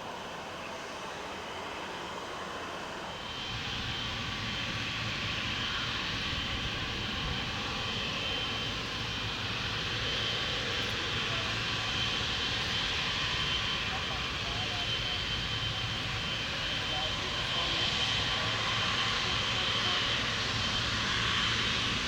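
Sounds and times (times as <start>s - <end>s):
jet engine rumble with whine: 0.0s - 22.0s.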